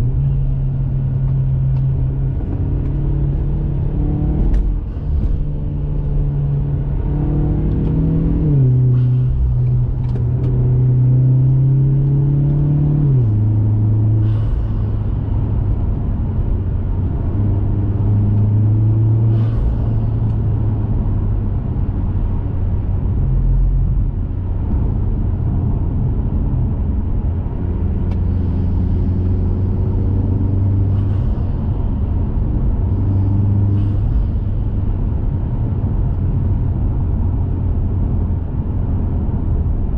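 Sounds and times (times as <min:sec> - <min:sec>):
car engine shifting up: 0:00.0 - 0:39.9.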